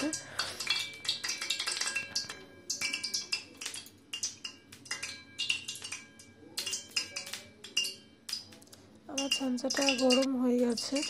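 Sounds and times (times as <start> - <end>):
metal mould clinking against pan: 0.0 - 11.0.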